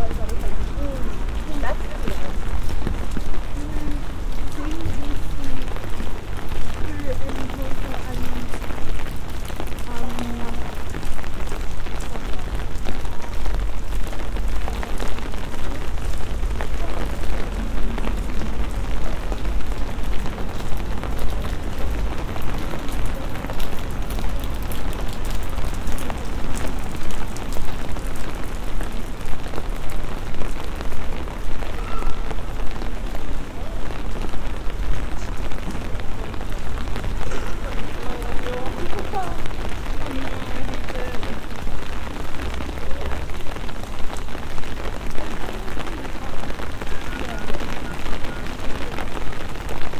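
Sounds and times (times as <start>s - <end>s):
rain on wet paving: 0.0s - 49.9s.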